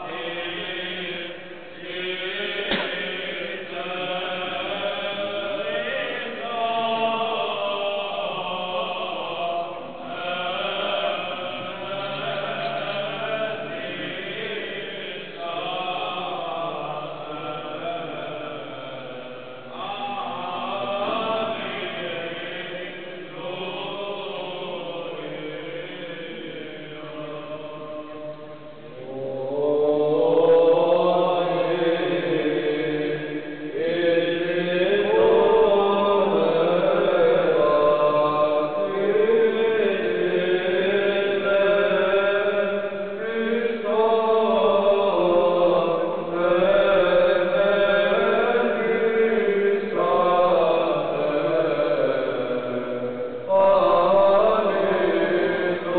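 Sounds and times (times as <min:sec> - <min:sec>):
voices chanting slow religious chant: 0:00.0 - 0:55.9.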